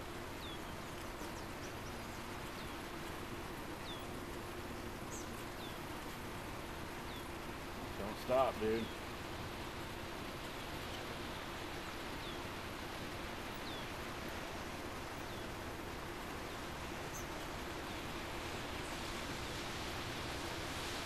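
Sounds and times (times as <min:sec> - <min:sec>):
outdoor hiss: 0:00.0 - 0:21.0.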